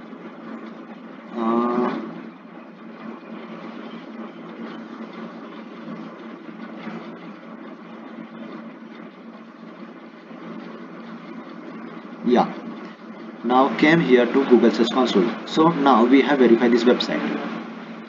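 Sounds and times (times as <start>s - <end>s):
steady background hum and hiss: 0.0s - 18.0s.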